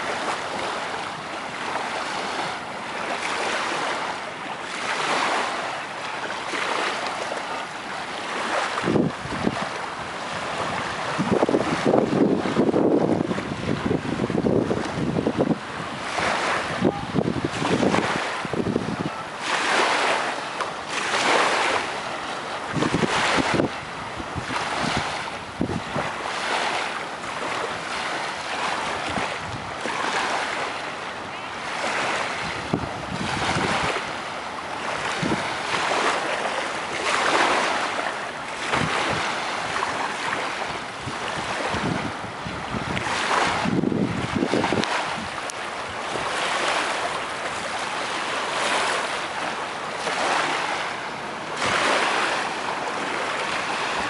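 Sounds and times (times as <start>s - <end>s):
waves rushing noise: 0.0s - 54.0s
wind buffeting microphone: 8.1s - 20.3s, 20.9s - 30.7s, 31.7s - 54.0s.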